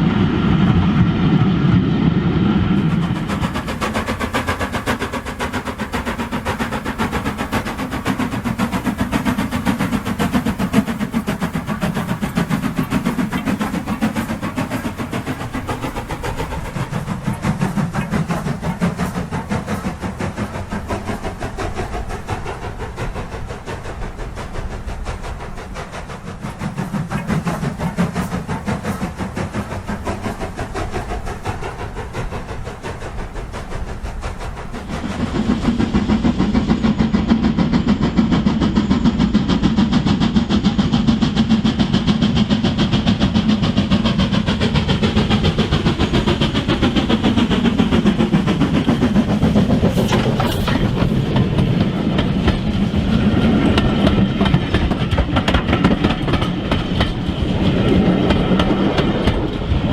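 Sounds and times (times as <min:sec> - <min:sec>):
model train running gear hum: 0:00.0 - 0:59.9
model train wheels clicking: 0:02.8 - 0:59.9.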